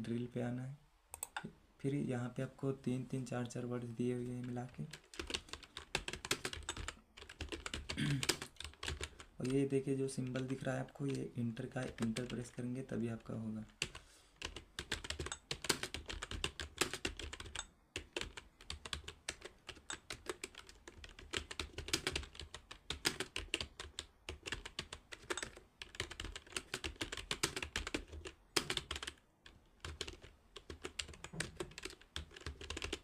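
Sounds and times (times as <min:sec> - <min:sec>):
fast typing on keyboard: 0:04.3 - 0:33.0.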